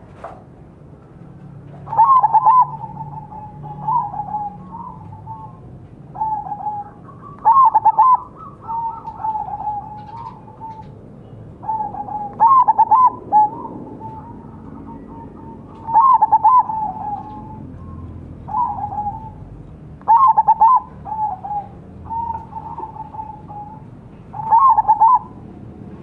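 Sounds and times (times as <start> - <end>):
dove cooing: 1.7 - 11.0, 11.6 - 25.5.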